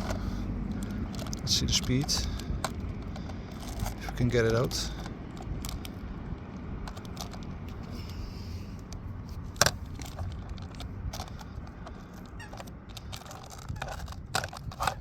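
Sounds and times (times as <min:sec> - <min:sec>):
hands clicking and scraping: 0:00.0 - 0:15.0
steady low rumble: 0:00.0 - 0:15.0.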